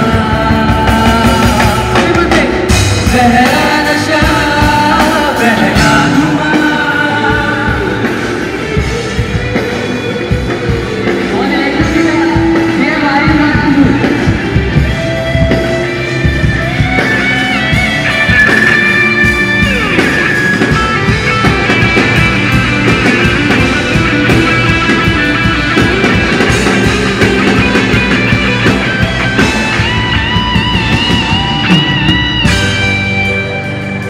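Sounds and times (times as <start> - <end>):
bass: 0.0 - 34.0
drums: 0.0 - 34.0
electric guitar lead: 0.0 - 34.0.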